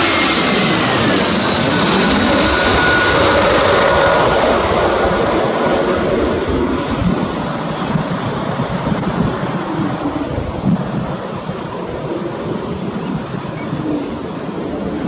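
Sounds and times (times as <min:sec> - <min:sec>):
jet airliner engine roar: 0:00.0 - 0:15.0.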